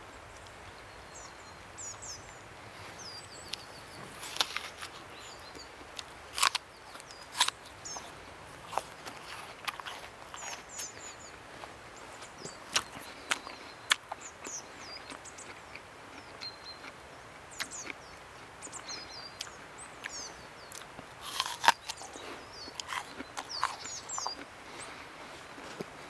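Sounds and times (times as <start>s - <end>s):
outdoor air hiss: 0.0s - 16.1s, 17.0s - 26.0s
small birds chirping: 0.0s - 26.0s.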